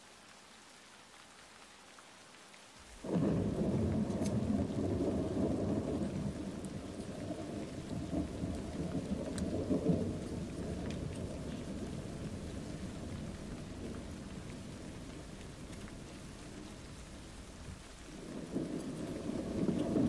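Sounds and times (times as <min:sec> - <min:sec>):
rain falling softly: 0:00.0 - 0:20.0
low rumble of thunder: 0:03.0 - 0:20.0.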